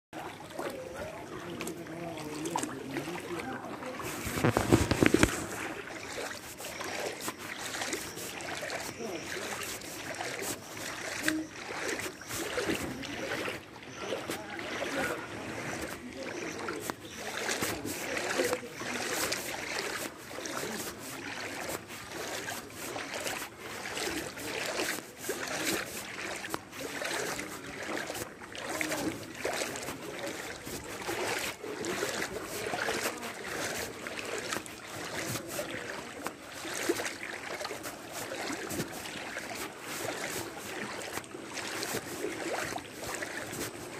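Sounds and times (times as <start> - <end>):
floodwater sloshing and splashing: 0.2 - 43.9.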